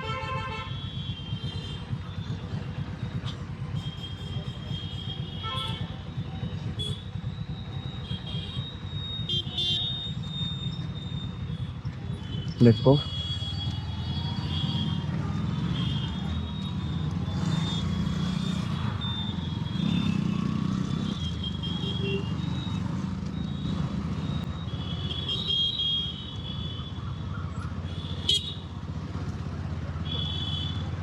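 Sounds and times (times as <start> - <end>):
motorcycle engine running: 0.0 - 31.0
traffic horns: 0.0 - 31.0.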